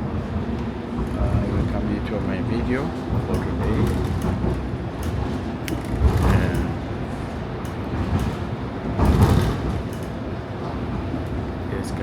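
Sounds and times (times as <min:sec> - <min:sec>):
streetcar rumbling: 0:00.0 - 0:12.0.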